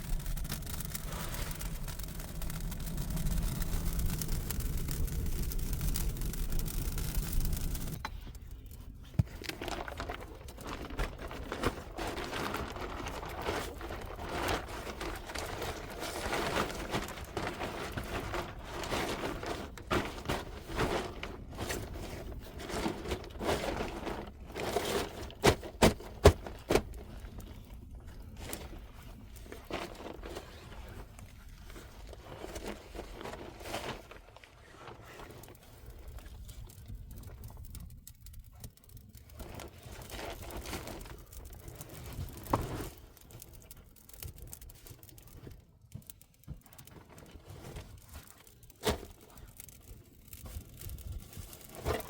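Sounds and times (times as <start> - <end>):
scraping and crinkling handling: 0.0 - 52.0.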